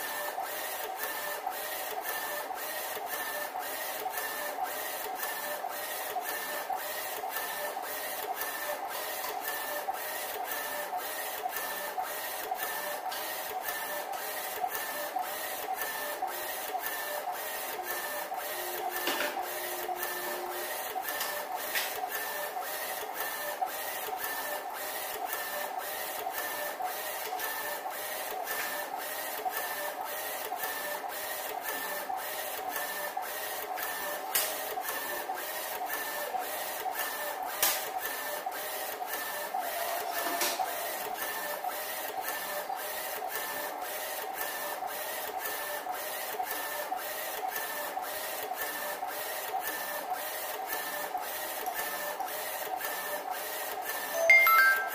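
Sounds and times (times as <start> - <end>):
print carriage running back and forth: 0.0 - 54.1.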